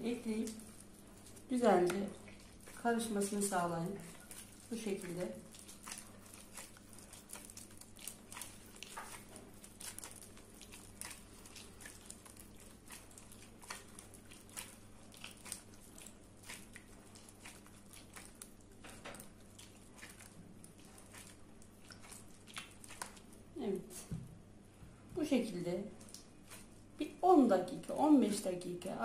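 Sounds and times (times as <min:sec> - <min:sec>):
plastic glove crinkling: 0:00.0 - 0:24.1
dough squishing: 0:00.0 - 0:29.0.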